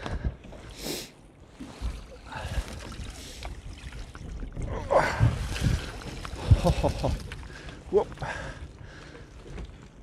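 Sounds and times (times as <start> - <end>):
water sound: 0.4 - 10.0.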